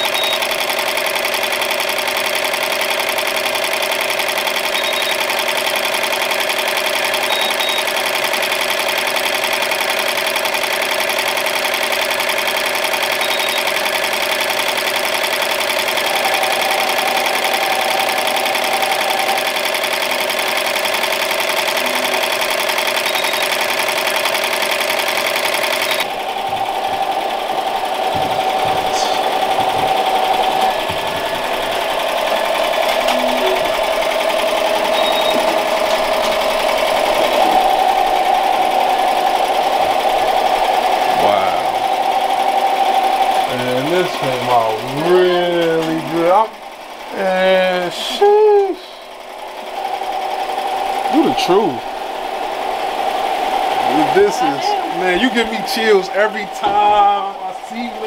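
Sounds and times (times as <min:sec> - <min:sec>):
sewing machines running: 0:00.0 - 0:58.0.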